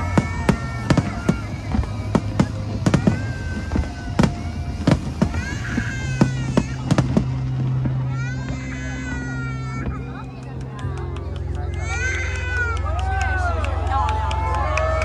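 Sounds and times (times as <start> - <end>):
fireworks bursting: 0.0 - 12.5.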